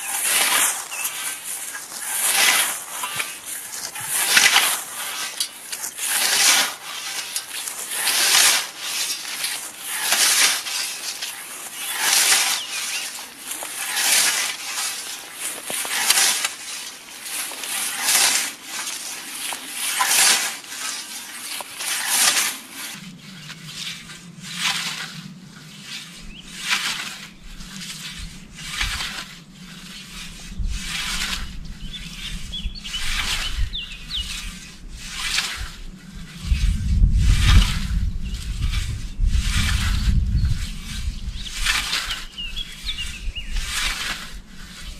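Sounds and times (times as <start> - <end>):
scythe swishing through grass: 0.0 - 44.9.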